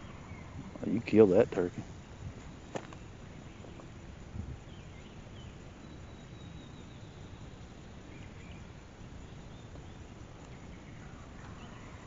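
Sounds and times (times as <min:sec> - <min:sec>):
distant songbird chirps: 0:00.0 - 0:12.0
steady background hiss: 0:00.0 - 0:12.0.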